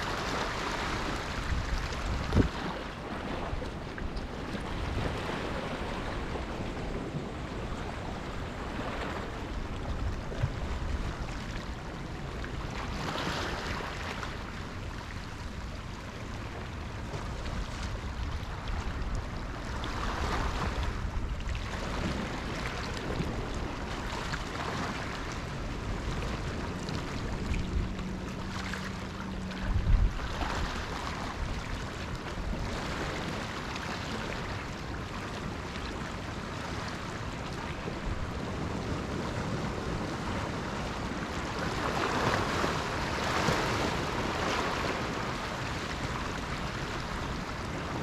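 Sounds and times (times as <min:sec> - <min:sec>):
sea waves washing in: 0:00.0 - 0:48.0
wind rumble on microphone: 0:00.0 - 0:48.0.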